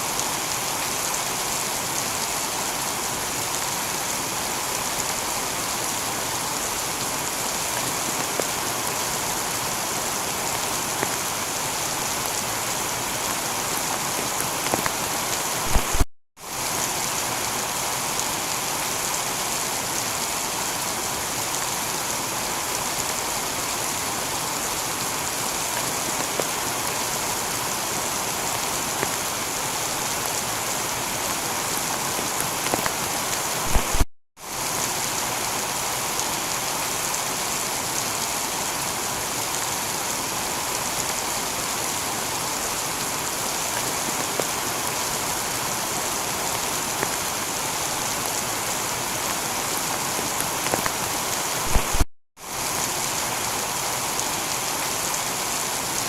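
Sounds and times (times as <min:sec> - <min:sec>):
heavy rain on a tiled roof: 0:00.0 - 0:56.0.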